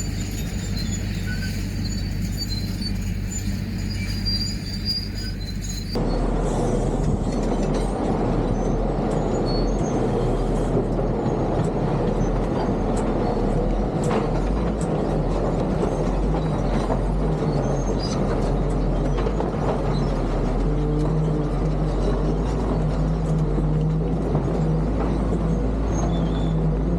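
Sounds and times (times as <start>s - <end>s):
bulldozer diesel engine: 0.0s - 26.9s
steel tracks clanking: 0.0s - 26.9s.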